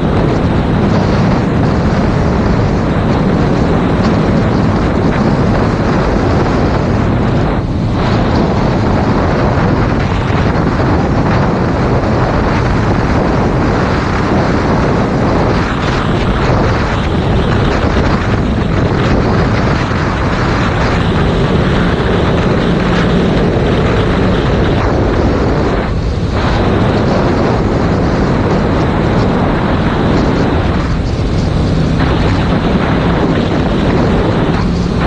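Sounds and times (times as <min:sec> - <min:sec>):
motorcycle engine: 0:00.0 - 0:35.0
wind roaring over microphone: 0:00.0 - 0:35.0.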